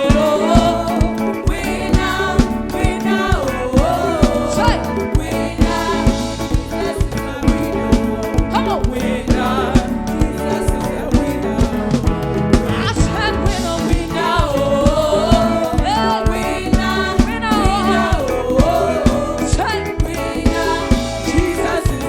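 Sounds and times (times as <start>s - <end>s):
band with drum beat and bass: 0.0s - 22.0s
gospel singing with vibrato: 0.0s - 22.0s.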